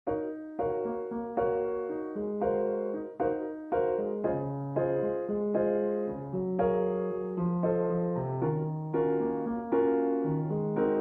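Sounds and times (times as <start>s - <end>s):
slow piano music: 0.1s - 11.0s.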